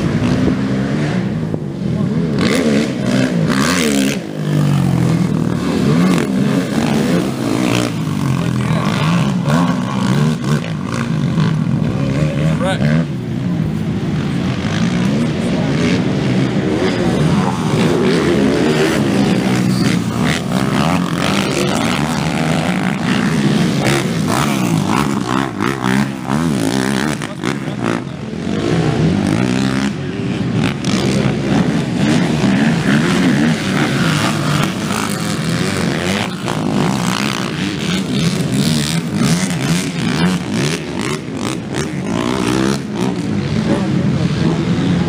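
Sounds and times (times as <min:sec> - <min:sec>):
atv engines revving: 0:00.0 - 0:45.0.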